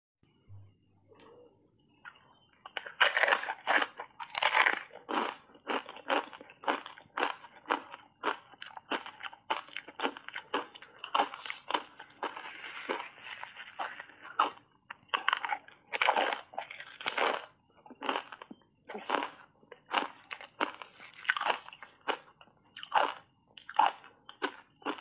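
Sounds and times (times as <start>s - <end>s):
ice being chewed with crunches: 2.0s - 25.0s.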